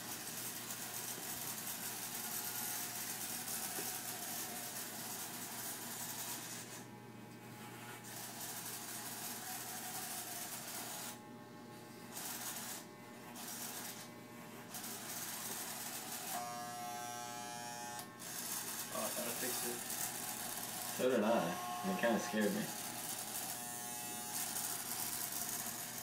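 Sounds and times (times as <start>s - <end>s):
electric hair clippers buzzing: 0.0s - 6.9s, 7.5s - 26.0s.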